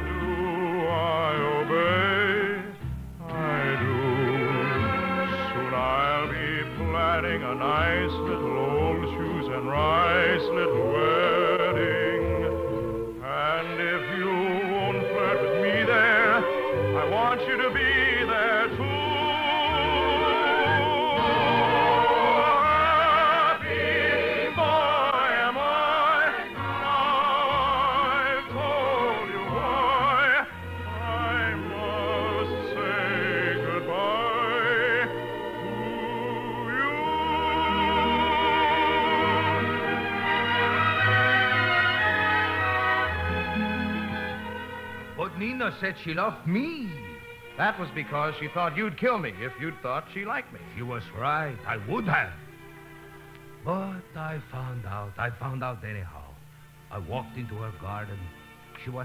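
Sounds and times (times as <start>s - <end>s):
operatic singing with vibrato: 0.0s - 59.0s
orchestra playing: 3.2s - 55.4s.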